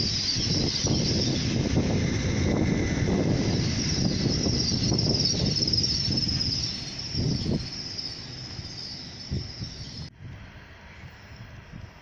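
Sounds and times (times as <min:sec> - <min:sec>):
train wheels clattering on rail: 0:00.0 - 0:10.1.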